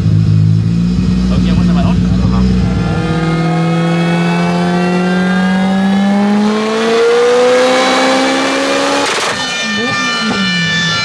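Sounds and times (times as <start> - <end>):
car engine revving up on dyno: 0.0 - 11.0.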